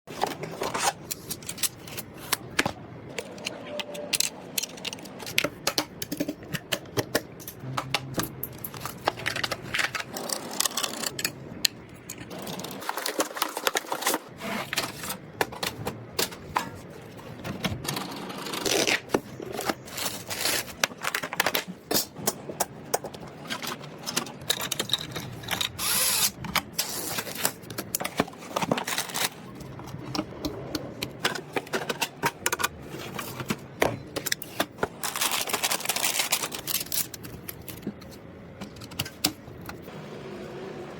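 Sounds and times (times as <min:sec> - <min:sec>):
computer parts clicking and knocking: 0:00.2 - 0:14.2, 0:14.9 - 0:39.8.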